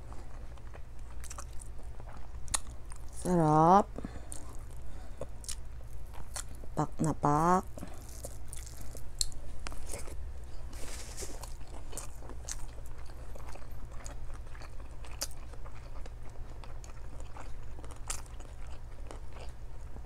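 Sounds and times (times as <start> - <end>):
low steady hum: 0.0 - 20.0
person chewing with mouth clicks: 0.2 - 3.3, 4.0 - 6.8, 7.6 - 10.2, 11.4 - 20.0.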